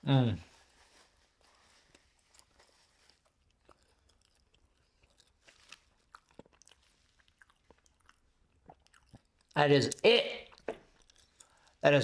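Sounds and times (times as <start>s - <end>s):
person chewing: 1.4s - 11.8s.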